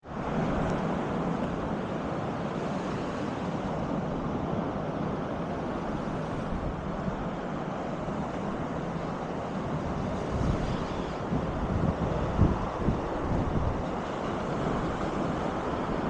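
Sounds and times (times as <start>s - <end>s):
sea surf on a beach: 0.0s - 16.0s
steady wind: 0.0s - 16.0s
wind buffeting microphone: 0.0s - 16.0s.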